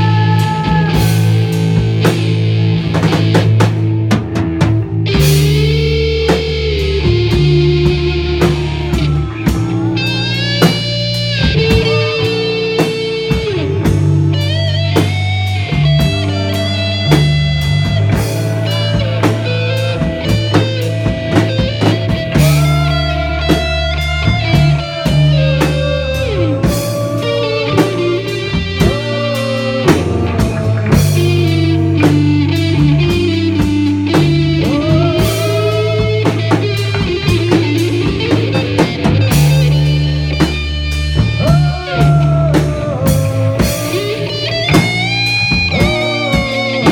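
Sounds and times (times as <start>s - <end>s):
bass guitar: 0.0s - 46.9s
drum kit: 0.0s - 46.9s
electric guitar lead: 0.0s - 46.9s.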